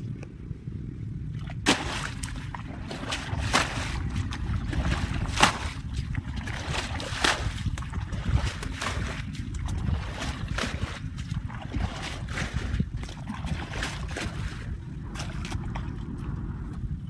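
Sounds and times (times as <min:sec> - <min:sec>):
steady low rumble: 0:00.0 - 0:17.0
water sloshing and splashing: 0:00.0 - 0:17.0.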